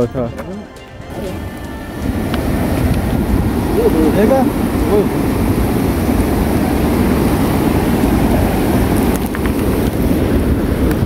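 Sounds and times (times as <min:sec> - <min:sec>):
river rushing over boulders: 0:01.1 - 0:11.0.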